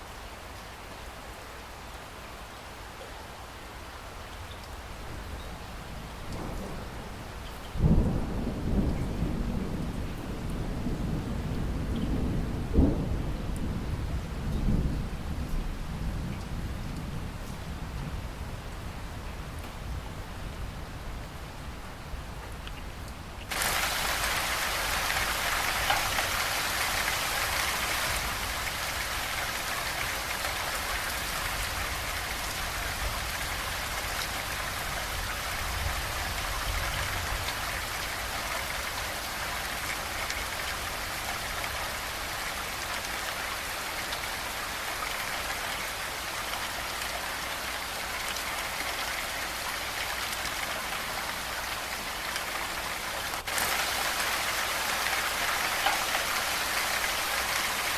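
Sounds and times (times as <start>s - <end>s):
rain pattering on a surface: 0.0s - 57.9s.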